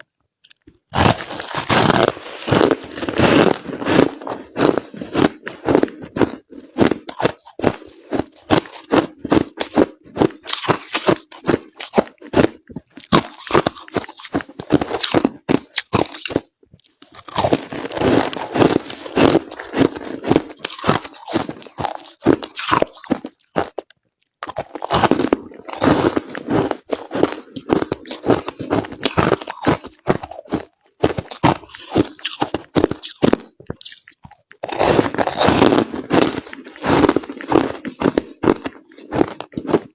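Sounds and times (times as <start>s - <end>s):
crushed ice crunching: 0.9s - 23.8s, 24.4s - 39.9s.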